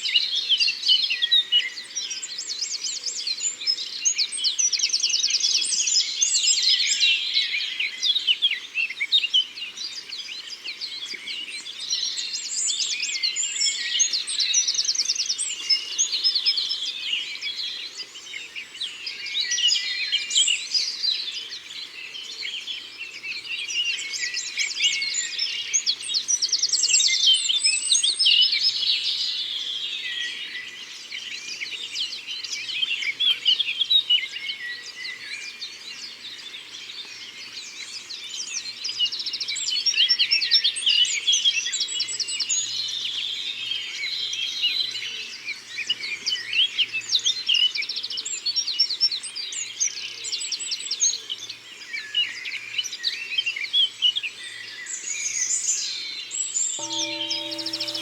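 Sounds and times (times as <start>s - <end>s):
many birds singing: 0.0s - 58.0s.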